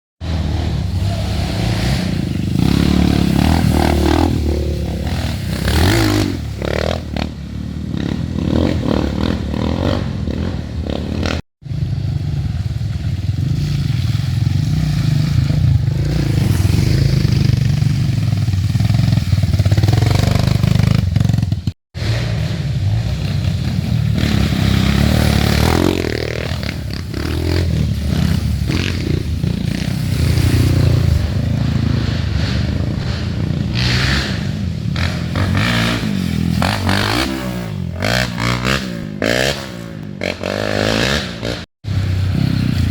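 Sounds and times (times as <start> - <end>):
dirt bike engines revving: 0.2 - 42.9.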